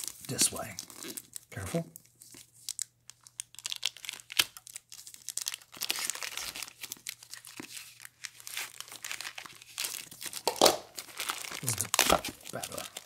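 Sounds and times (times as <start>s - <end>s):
plastic bag crinkling and tearing: 0.0s - 13.0s.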